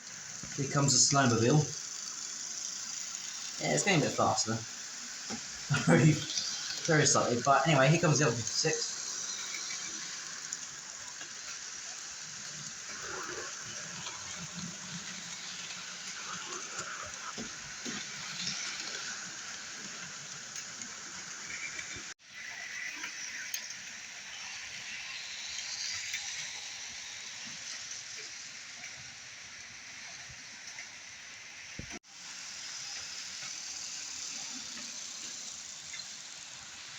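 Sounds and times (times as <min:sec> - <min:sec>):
model train motors whirring: 0:00.0 - 0:36.9.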